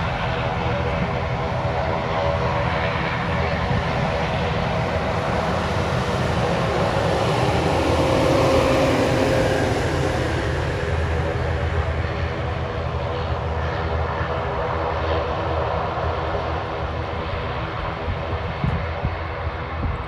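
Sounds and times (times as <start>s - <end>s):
engine humming whine: 0.0s - 20.0s
propeller drone: 0.0s - 20.0s.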